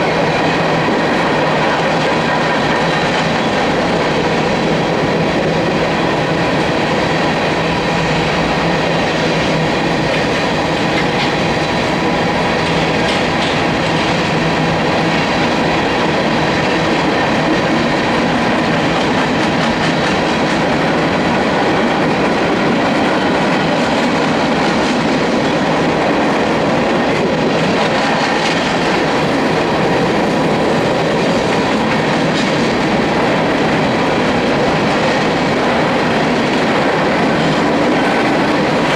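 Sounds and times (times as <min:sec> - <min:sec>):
freight train rolling past: 0:00.0 - 0:38.9
wheels clacking over rail joints: 0:00.0 - 0:38.9.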